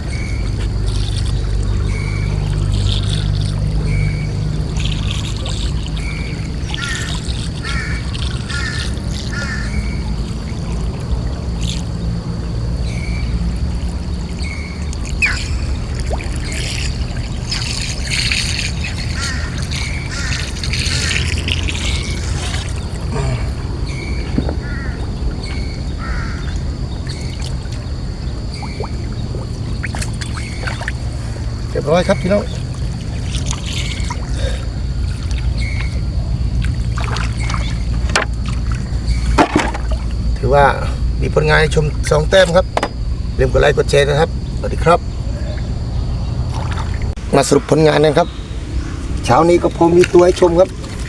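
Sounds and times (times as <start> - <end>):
water splashing and dripping: 0.0 - 40.5, 46.4 - 48.2, 49.0 - 51.0
small boat engine running: 0.0 - 51.0.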